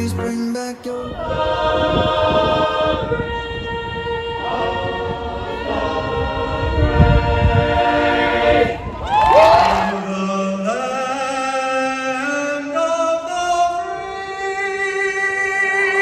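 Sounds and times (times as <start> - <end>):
choir singing a cappella: 0.8 - 16.0.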